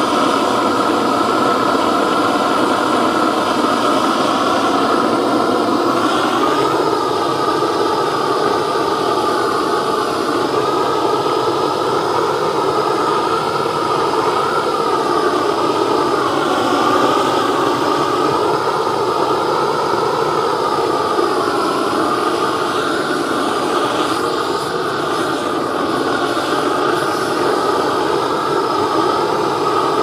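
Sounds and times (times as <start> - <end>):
blowtorch burning: 0.0 - 30.0.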